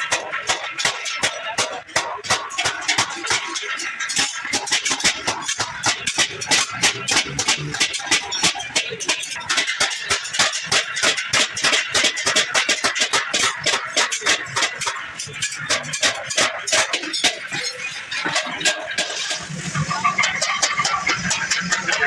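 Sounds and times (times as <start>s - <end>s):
hammer striking sheet steel: 0.0s - 22.0s.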